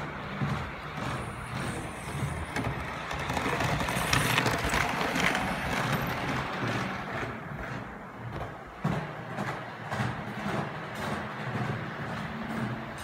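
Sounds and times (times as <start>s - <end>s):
low motor hum: 0.0s - 13.0s
model train wheels clicking on rails: 0.0s - 13.0s.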